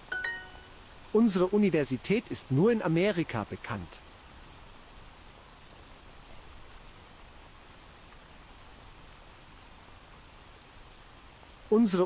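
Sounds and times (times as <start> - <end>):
faint rain: 0.0 - 12.0.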